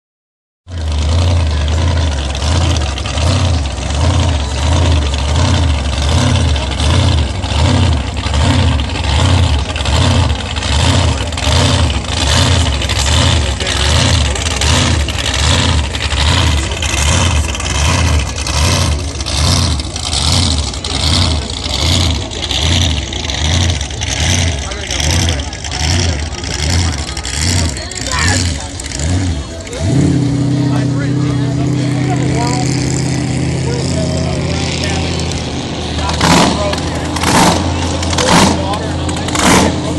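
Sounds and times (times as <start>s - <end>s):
boat engine idling loudly: 0.6s - 39.9s.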